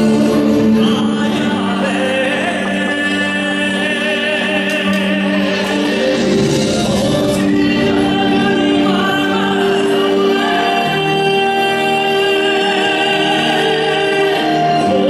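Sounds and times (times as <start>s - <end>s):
steady musical accompaniment: 0.0s - 15.0s
voices singing with held notes: 0.0s - 15.0s.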